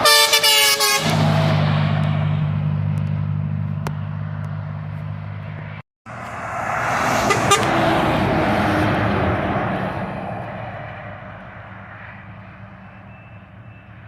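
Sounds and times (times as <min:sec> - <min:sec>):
heavy vehicle engine and road noise: 0:00.0 - 0:14.0
truck engine humming: 0:00.0 - 0:14.0.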